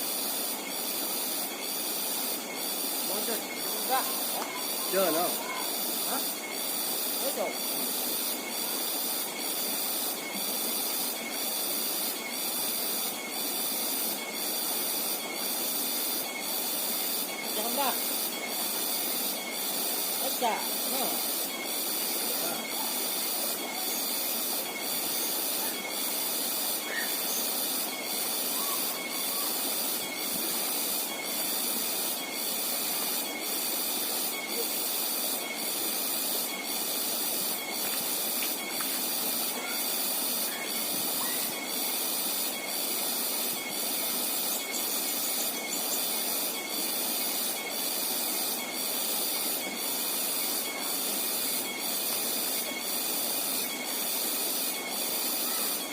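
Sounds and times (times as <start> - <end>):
high pulsing buzz: 0.0 - 55.9.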